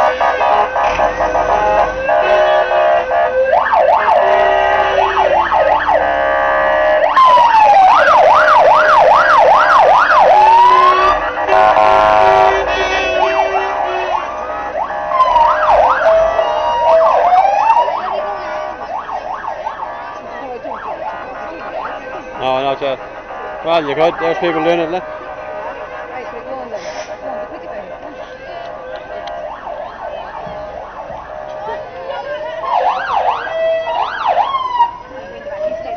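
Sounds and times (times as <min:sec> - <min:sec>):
fire engine sirens yelping: 0:00.0 - 0:35.9.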